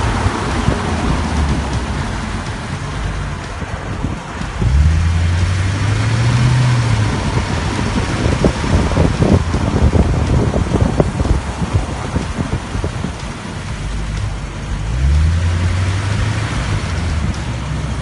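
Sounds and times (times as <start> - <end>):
car engine humming: 0.0 - 18.0
road rushing noise: 0.0 - 18.0.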